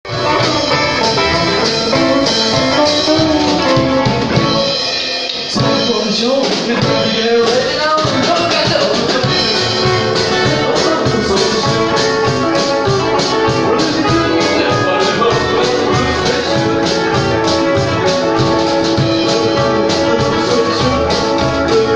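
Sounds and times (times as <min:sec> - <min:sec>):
rockabilly guitar and drums: 0:00.0 - 0:21.9.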